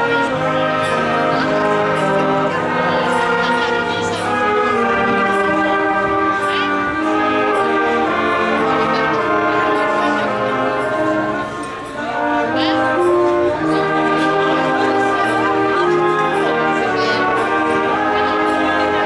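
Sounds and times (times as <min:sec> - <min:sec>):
wind band playing chords: 0:00.0 - 0:19.0.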